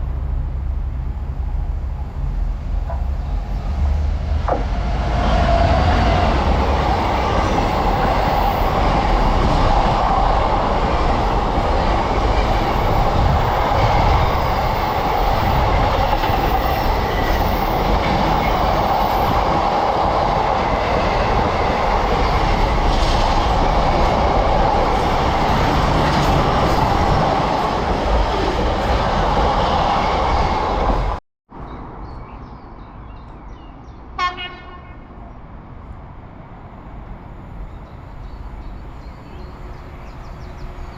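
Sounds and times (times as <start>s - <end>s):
freight train passing: 0.0s - 31.2s, 34.0s - 40.9s.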